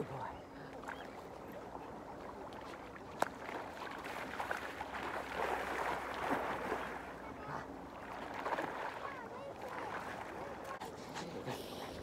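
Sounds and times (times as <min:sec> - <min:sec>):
feet splashing through water: 0:00.7 - 0:10.9.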